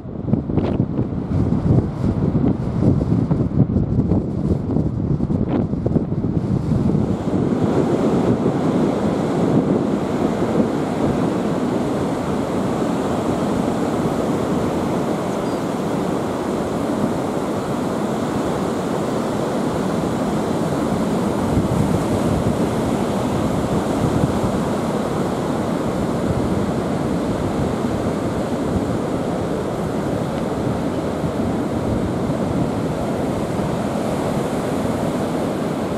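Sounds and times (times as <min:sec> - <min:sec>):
surf breaking on sandy beach: 0:00.4 - 0:35.9.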